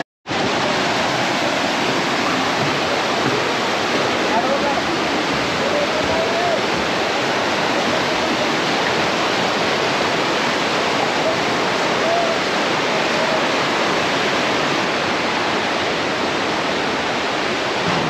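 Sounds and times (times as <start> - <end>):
rushing flowing water: 0.0 - 18.0.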